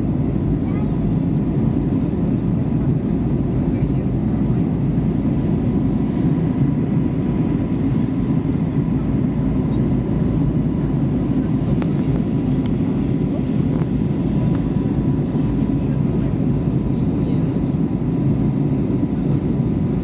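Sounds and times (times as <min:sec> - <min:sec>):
aircraft engines rumbling: 0:00.0 - 0:20.0.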